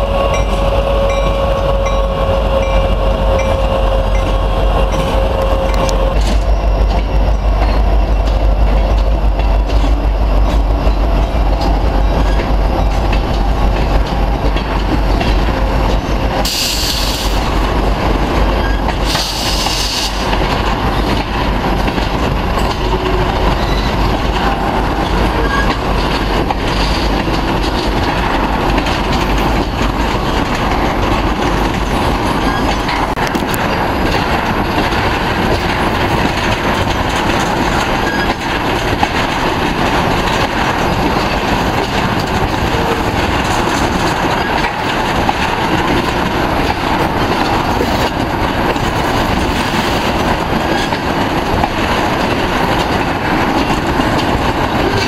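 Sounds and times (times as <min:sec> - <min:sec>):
steel wheels clattering on rails: 0:00.0 - 0:55.0.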